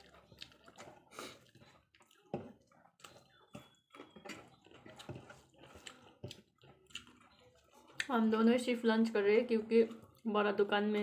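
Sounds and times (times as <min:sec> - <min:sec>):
wet squishing of rice by hand: 0:00.0 - 0:11.0.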